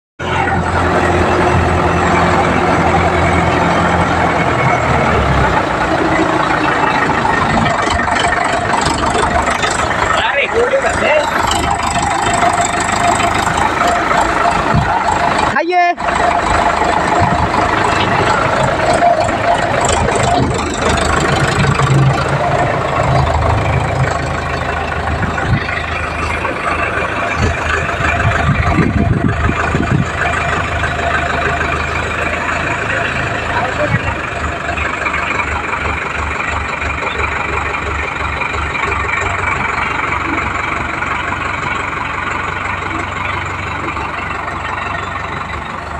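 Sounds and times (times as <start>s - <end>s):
tractor diesel engine running: 0.2s - 45.9s.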